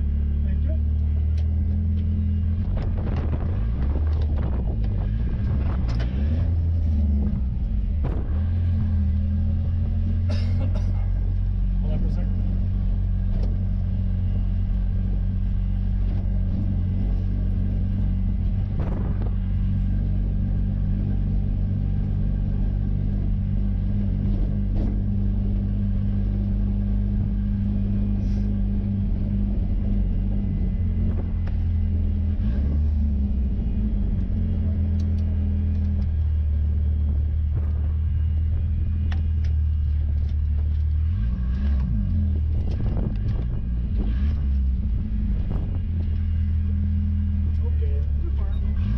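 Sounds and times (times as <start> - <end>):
car engine running at low revs: 0.0 - 48.9.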